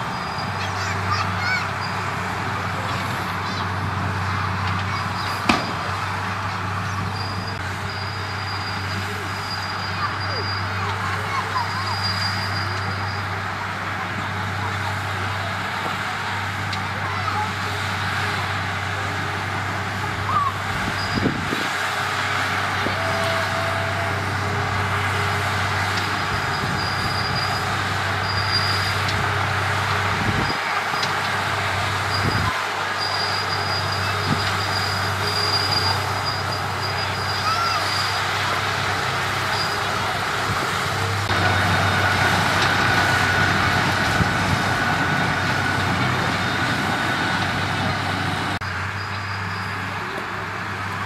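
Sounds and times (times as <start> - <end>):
bulldozer diesel engine running: 0.0 - 51.0.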